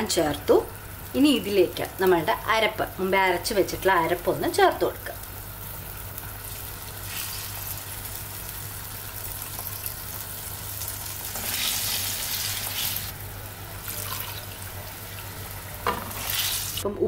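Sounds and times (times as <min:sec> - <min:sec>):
curry sizzling in clay pot: 0:00.0 - 0:16.9.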